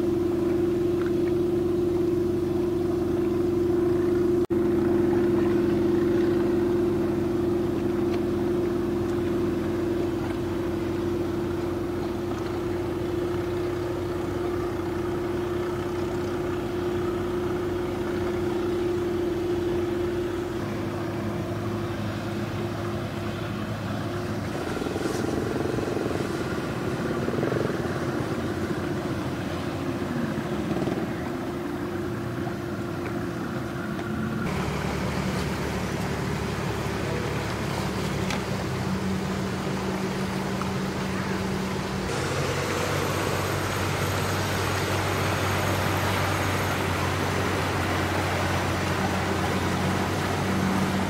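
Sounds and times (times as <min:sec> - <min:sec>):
boat engines droning: 0:00.0 - 0:51.0
rough engine rumble: 0:00.0 - 0:51.0.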